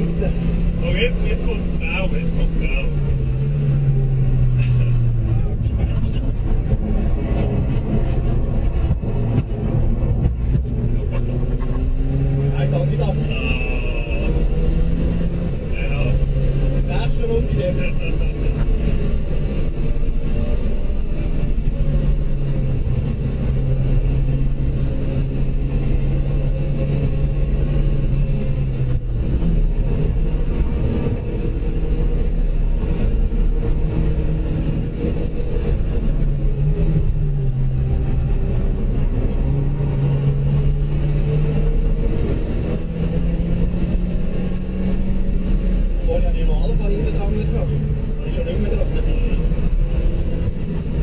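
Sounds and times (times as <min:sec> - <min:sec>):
car engine driven hard: 0:00.0 - 0:51.0
road and tyre rumble: 0:00.0 - 0:51.0.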